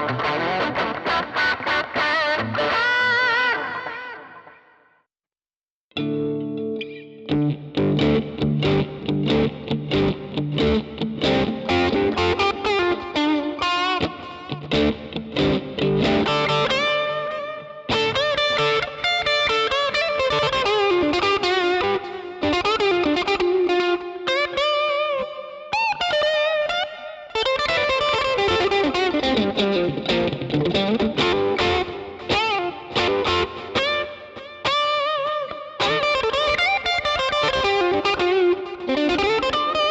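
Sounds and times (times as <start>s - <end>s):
electric guitar lead line: 0.0s - 4.9s, 5.9s - 39.9s.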